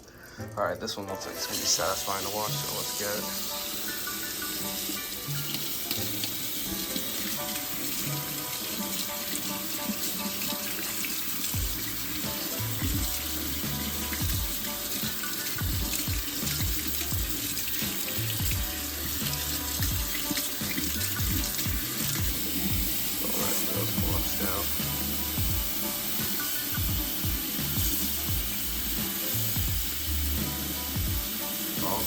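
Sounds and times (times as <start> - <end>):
background music: 0.0 - 32.0
tap water splashing in sink: 0.0 - 32.0.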